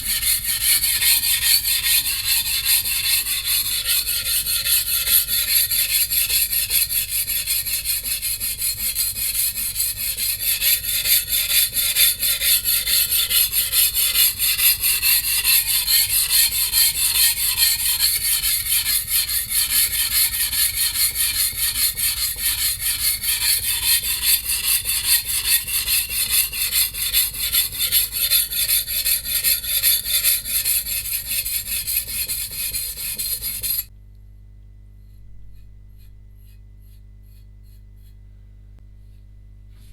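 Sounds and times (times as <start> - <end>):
cleaver grinding on whetstone: 0.0 - 33.9.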